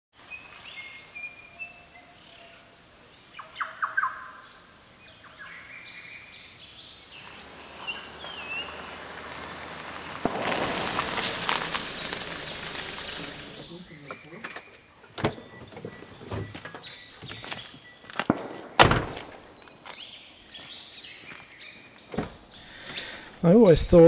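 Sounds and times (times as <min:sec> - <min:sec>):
wild birds calling: 0:00.4 - 0:18.2, 0:19.4 - 0:23.5.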